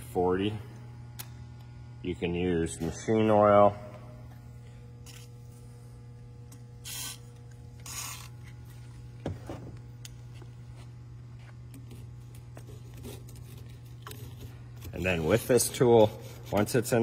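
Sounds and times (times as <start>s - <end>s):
steady shop hum: 0.0s - 17.0s.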